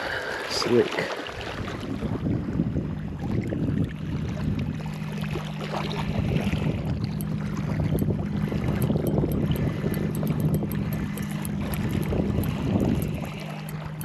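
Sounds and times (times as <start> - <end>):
water noise: 0.0 - 14.0
wind: 0.0 - 14.0
low engine hum: 1.5 - 14.0.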